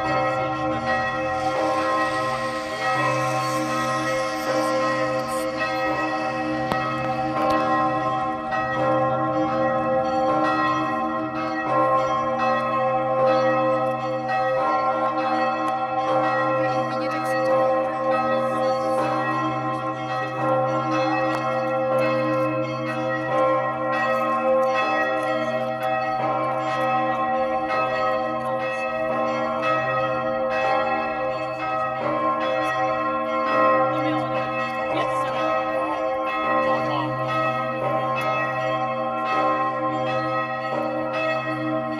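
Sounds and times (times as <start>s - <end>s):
large church bell tolling: 0.0s - 41.9s.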